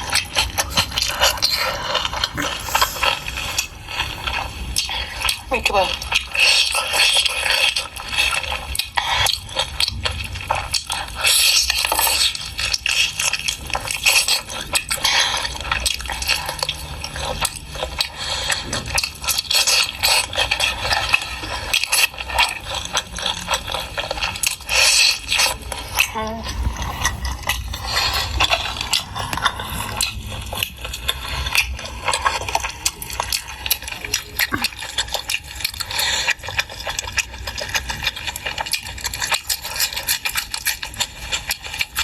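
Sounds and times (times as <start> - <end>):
wet chewing and slurping: 0.0 - 42.0.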